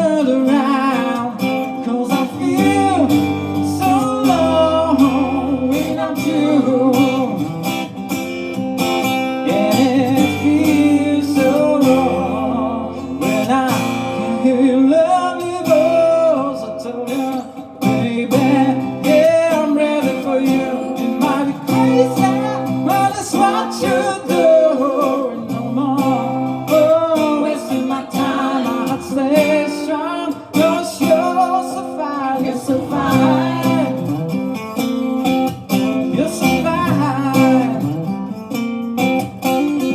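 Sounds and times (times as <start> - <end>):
person singing: 0.0 - 7.5, 9.4 - 34.3, 35.9 - 38.1
acoustic guitar strumming: 0.0 - 39.9.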